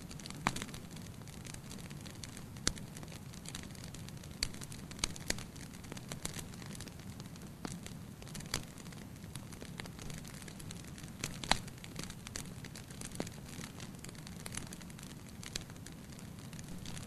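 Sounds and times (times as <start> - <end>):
fire crackling pops: 0.0 - 17.0
fire rumbling in fireplace: 0.0 - 17.0.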